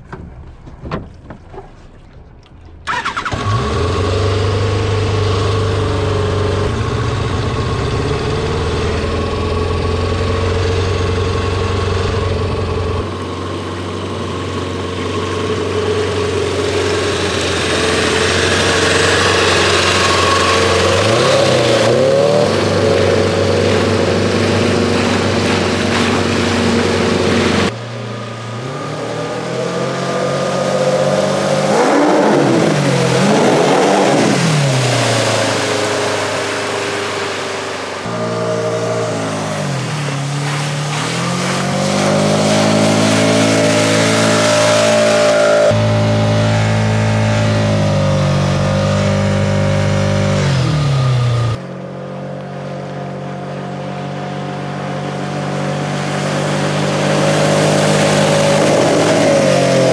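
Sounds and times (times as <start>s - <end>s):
jet ski engine running: 0.3s - 59.9s.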